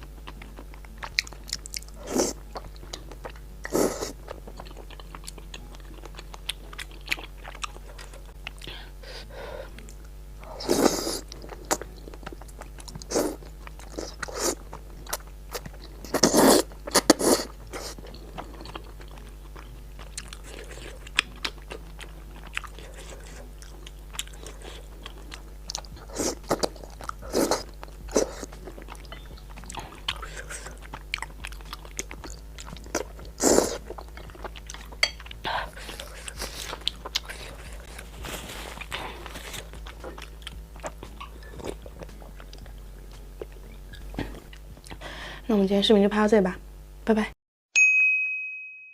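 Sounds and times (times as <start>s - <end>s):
crunchy chewing and biting: 0.0s - 9.0s, 9.7s - 45.0s.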